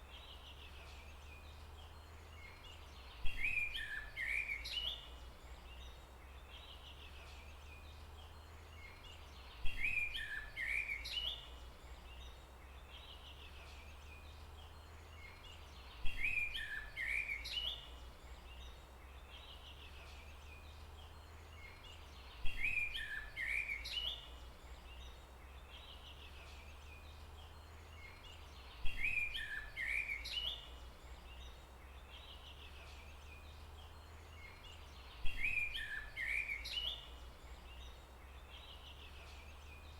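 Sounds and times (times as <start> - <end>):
songbird chirping phrase: 0.0 - 39.9.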